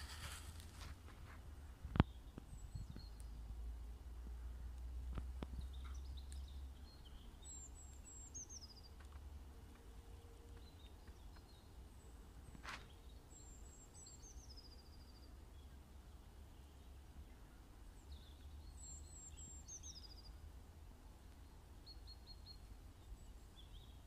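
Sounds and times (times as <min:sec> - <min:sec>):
songbird song with falling trill: 0:00.0 - 0:03.8, 0:05.1 - 0:24.0.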